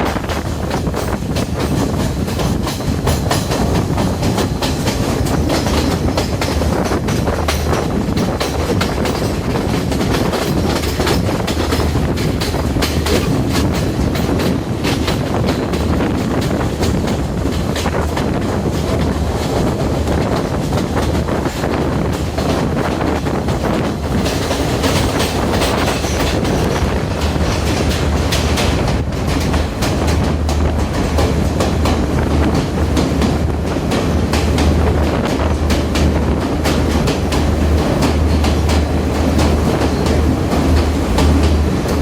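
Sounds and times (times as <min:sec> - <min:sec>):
train rumbling at speed: 0:00.0 - 0:42.0
wheels clicking over rail joints: 0:00.0 - 0:42.0.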